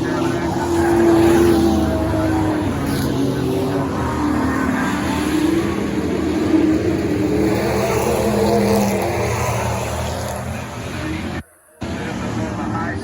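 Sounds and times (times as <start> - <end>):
racing truck engines passing: 0.0 - 13.0.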